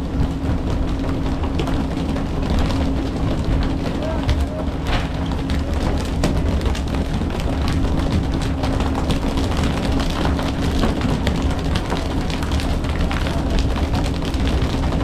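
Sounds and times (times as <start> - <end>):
knocks and clatter on deck: 0.0 - 15.0.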